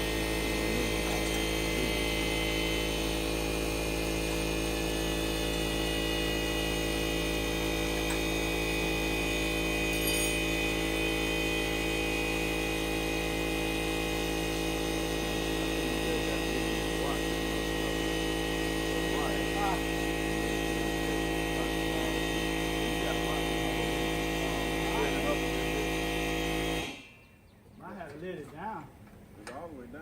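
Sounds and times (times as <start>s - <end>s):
steady tonal hum: 0.0s - 26.0s.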